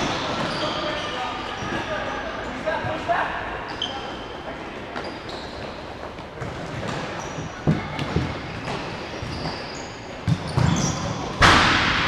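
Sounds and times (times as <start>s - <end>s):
shoes squeaking on court: 0.0s - 3.0s, 3.6s - 11.4s.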